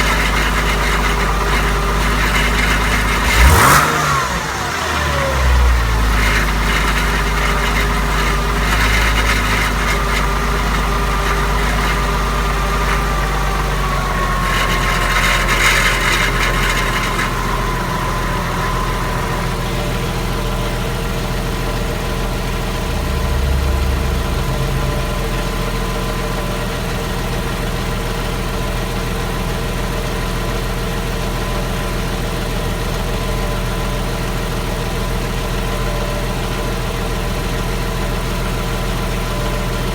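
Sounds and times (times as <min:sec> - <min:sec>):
car engine idling with whine: 0:00.0 - 0:39.9.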